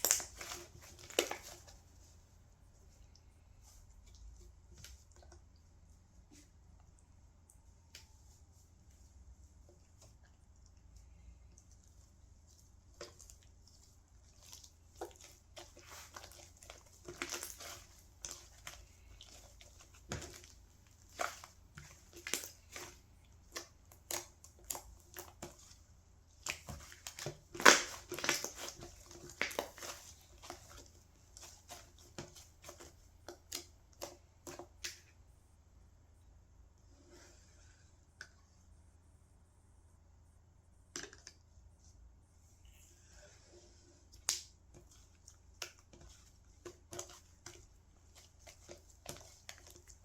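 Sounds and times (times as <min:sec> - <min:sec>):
hands squishing slime: 0:00.0 - 0:35.3, 0:44.0 - 0:50.0.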